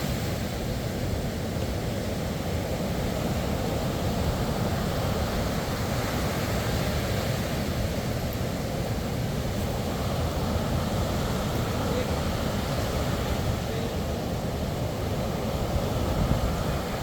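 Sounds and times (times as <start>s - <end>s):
sea waves washing on beach: 0.0s - 17.0s.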